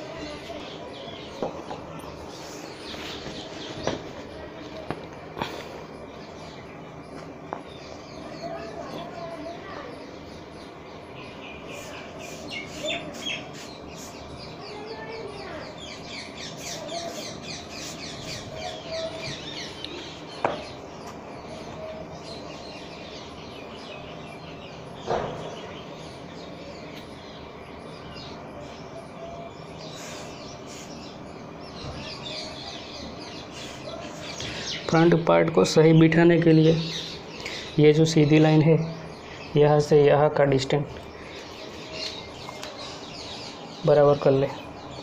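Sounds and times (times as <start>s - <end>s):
small birds twittering: 0.0s - 45.0s.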